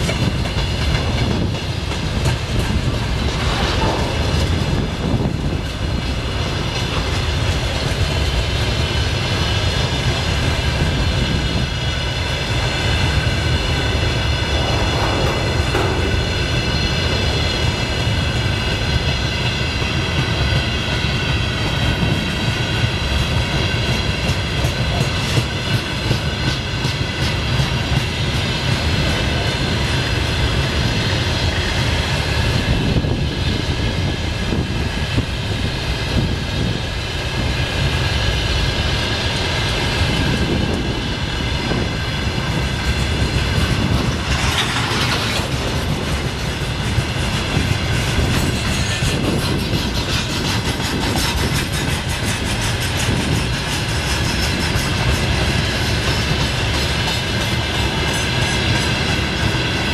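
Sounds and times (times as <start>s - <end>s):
clickety-clack of wheels: 0.0s - 59.9s
steel wheels rumbling on rails: 0.0s - 59.9s.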